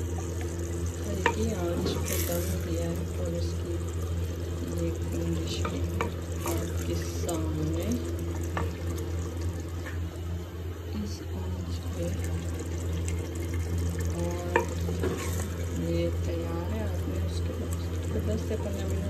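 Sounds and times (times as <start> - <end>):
liquid sloshing and gurgling: 0.0 - 19.0.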